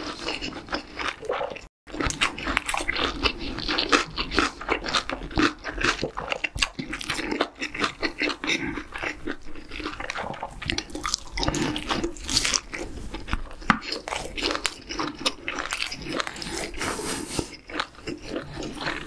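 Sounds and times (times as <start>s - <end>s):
chewing with crunches: 0.0s - 19.0s.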